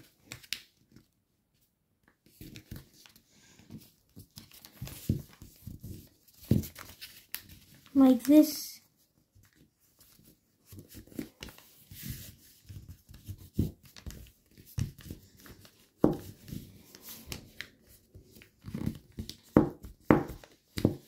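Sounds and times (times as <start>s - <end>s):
paper rustling and crinkling: 0.0s - 21.0s.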